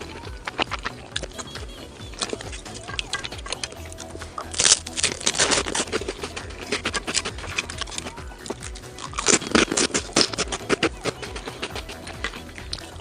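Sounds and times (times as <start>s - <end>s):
background music: 0.0s - 13.0s
mussel shells clicking: 0.0s - 13.0s
wet crackly chewing: 0.0s - 13.0s.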